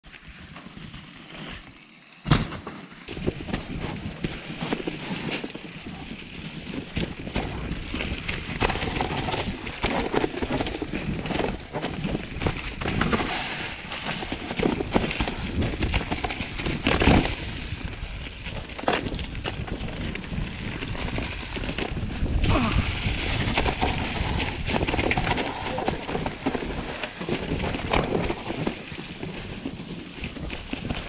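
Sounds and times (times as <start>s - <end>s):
bike rattling over roots: 0.2s - 31.0s.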